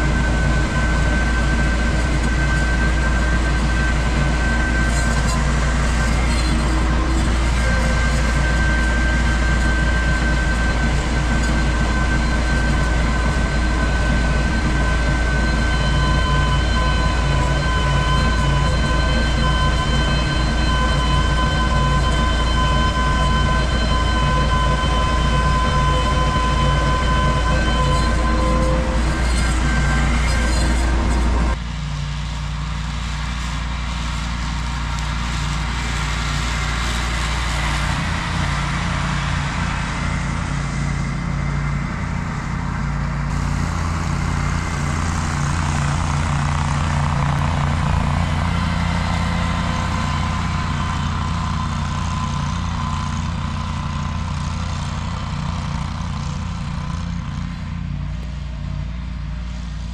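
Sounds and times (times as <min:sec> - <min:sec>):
mower whine: 0:00.0 - 0:59.9
tractor engine drone: 0:00.0 - 0:59.9.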